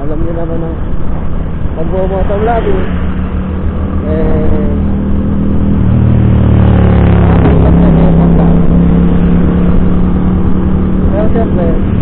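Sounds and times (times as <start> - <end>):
wind rumble: 0.0 - 12.0.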